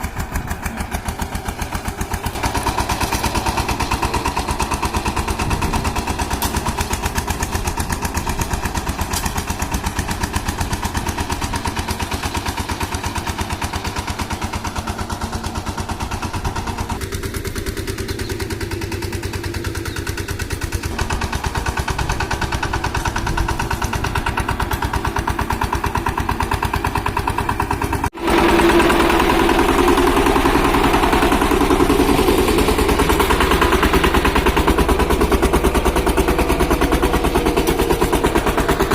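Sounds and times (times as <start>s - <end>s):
power tiller engine chugging: 0.0s - 38.9s.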